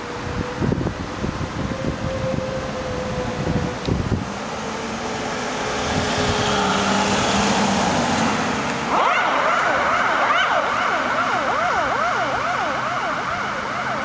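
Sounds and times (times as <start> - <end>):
siren wailing: 0.0 - 8.2, 8.8 - 14.0.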